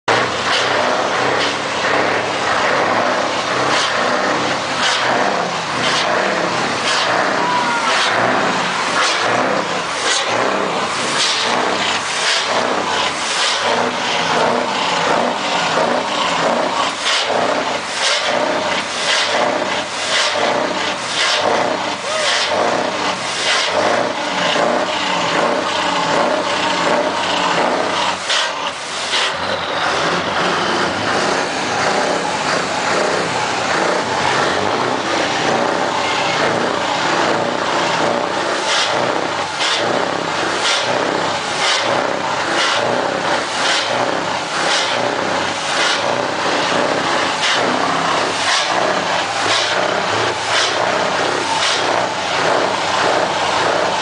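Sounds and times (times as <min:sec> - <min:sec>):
vehicle engine pulsing: 0:00.0 - 0:54.0.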